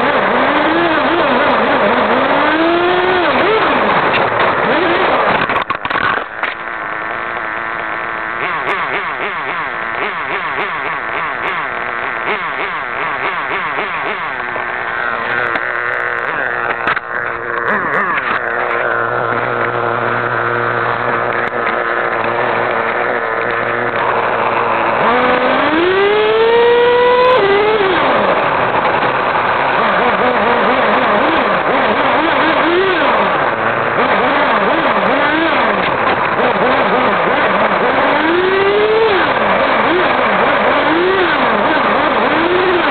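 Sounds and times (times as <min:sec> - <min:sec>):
model car motor whine: 0:00.0 - 0:42.9.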